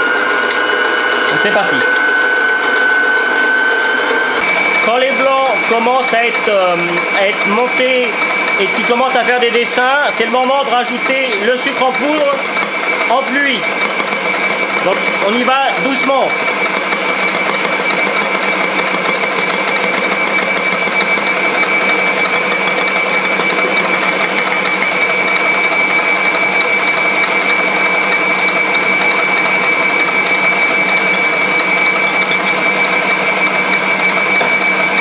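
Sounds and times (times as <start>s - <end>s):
high motor whine: 0.0s - 35.0s
stand mixer whisking: 0.0s - 35.0s.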